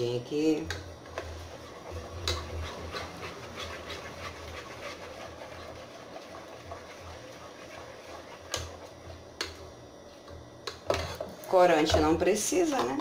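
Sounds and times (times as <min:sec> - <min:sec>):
ladle stirring in a pot: 0:01.0 - 0:13.0.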